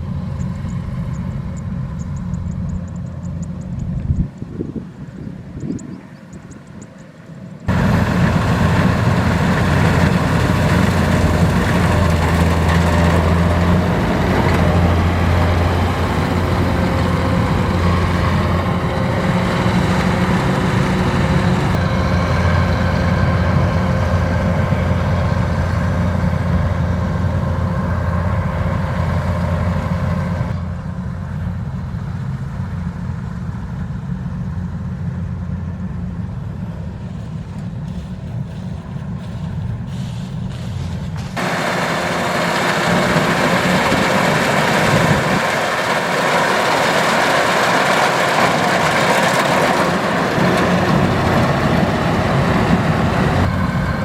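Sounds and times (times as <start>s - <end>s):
harvester engine and threshing machinery: 0.0s - 54.0s.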